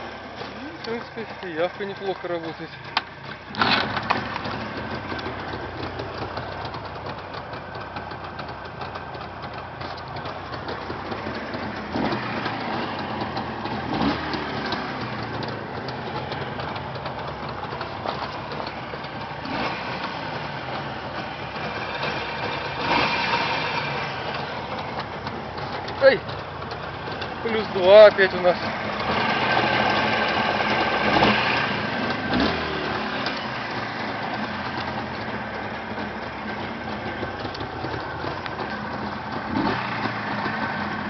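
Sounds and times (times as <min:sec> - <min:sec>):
two-stroke motorcycle engine running: 0:00.0 - 0:41.0.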